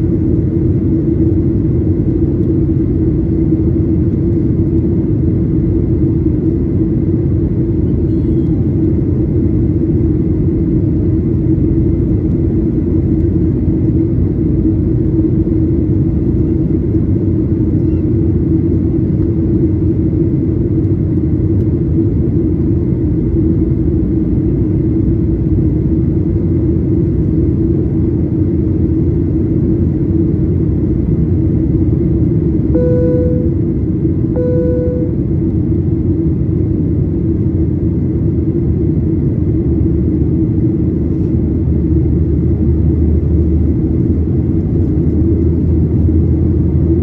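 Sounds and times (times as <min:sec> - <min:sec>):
jet engines droning: 0:00.0 - 0:47.0
steady low hum: 0:00.0 - 0:47.0.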